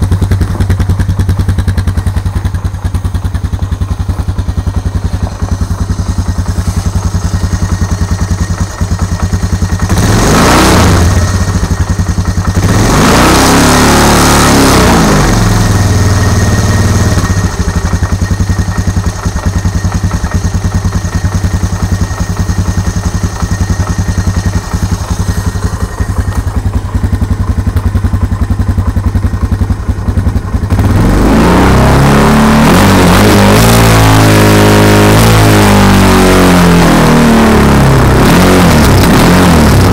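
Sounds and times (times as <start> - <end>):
atv engine idling with knock: 0.0 - 39.9
atv engine revving: 0.0 - 39.9.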